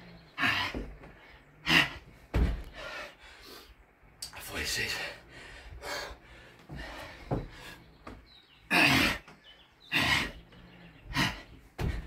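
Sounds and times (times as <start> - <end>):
man breathing hard: 0.0 - 4.0, 4.9 - 12.0.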